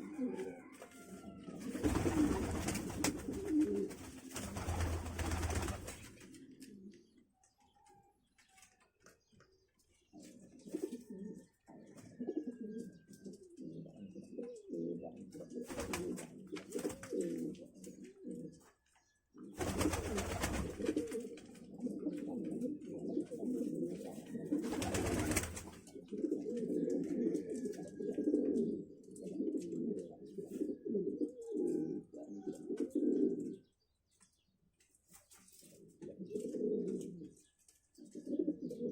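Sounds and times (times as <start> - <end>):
doves cooing: 0.0 - 7.2, 10.2 - 18.7, 19.4 - 33.7, 36.0 - 38.9.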